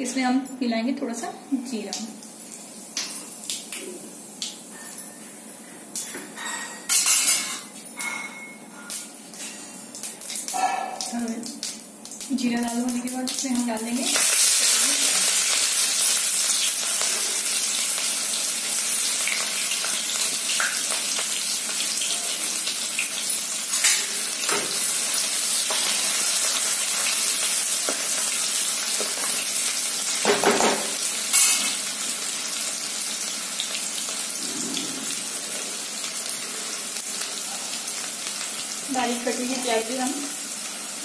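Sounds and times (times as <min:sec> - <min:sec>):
onions sizzling in oil: 0:01.5 - 0:06.2, 0:08.8 - 0:41.0.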